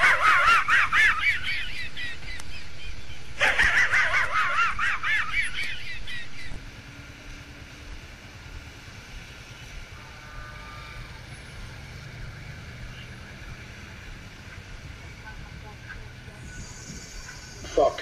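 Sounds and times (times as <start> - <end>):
traffic and engine noise: 0.0 - 18.0.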